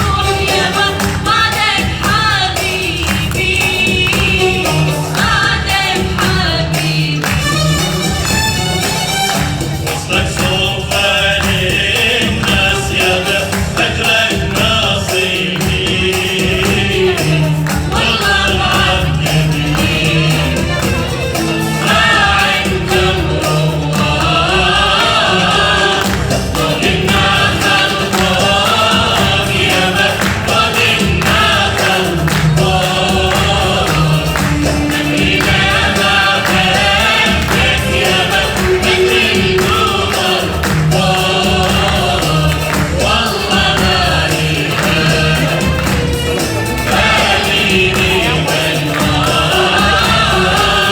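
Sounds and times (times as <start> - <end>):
choir singing: 0.0 - 50.9
instrumental accompaniment: 0.0 - 50.9.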